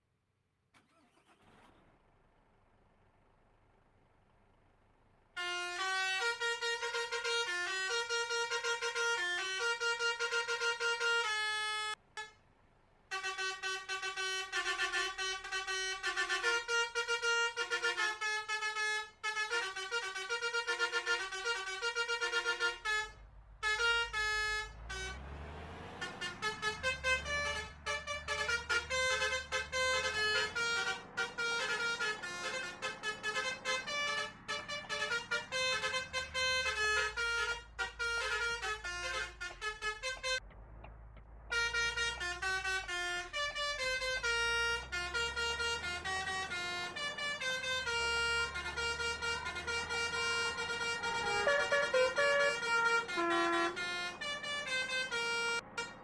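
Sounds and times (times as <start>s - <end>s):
multi-tone musical horn melody: 5.4s - 12.4s, 13.1s - 40.4s, 41.5s - 56.0s.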